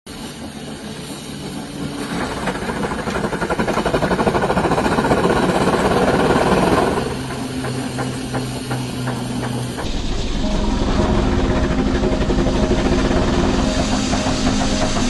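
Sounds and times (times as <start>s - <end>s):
steam engine beating: 0.1s - 15.0s.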